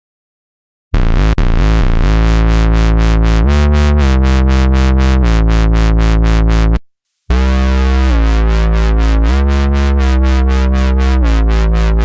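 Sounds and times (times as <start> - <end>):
synthesizer wobble bass: 1.0 - 12.0.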